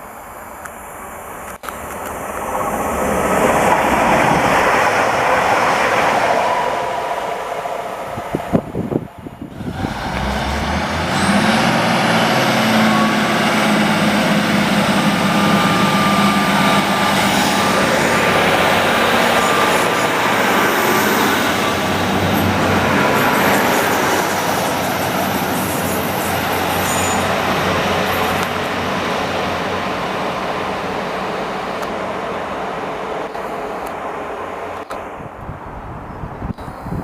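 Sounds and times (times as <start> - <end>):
diesel train engine: 0.0 - 36.8
wheel and rail rumble: 1.3 - 37.0.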